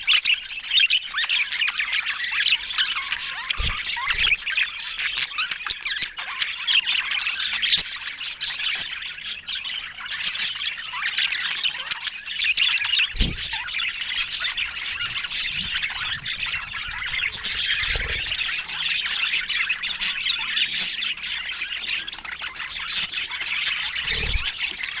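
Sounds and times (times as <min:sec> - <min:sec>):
budgerigars chattering: 0:01.7 - 0:25.0.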